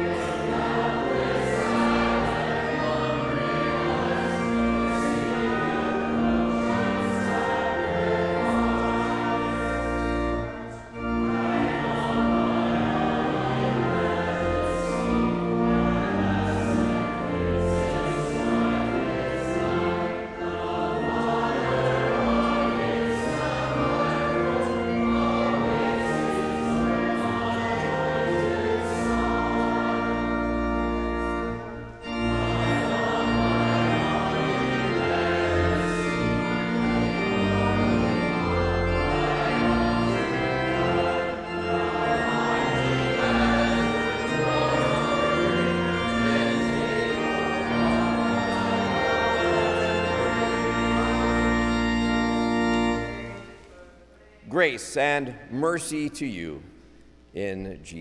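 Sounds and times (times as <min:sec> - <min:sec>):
congregation singing a hymn: 0:00.0 - 0:56.7
organ accompaniment: 0:00.0 - 0:58.0.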